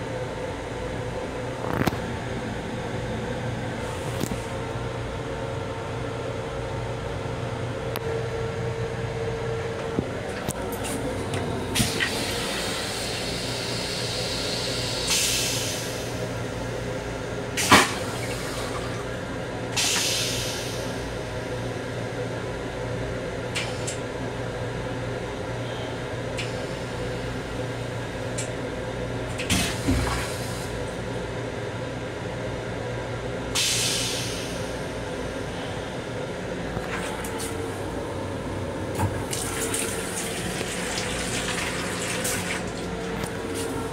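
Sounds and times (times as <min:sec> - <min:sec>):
railcar running hum: 0:00.0 - 0:43.9.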